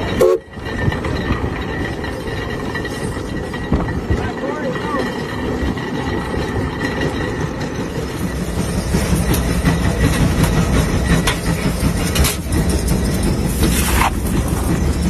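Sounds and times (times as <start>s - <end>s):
sharp metallic clanks: 0.0s - 15.0s
steam engine chugging: 0.0s - 15.0s.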